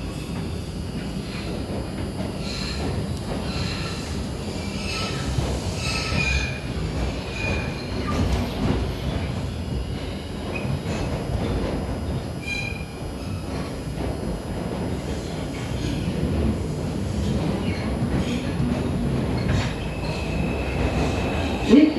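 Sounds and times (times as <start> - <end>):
subway car rolling rumble: 0.0 - 21.9.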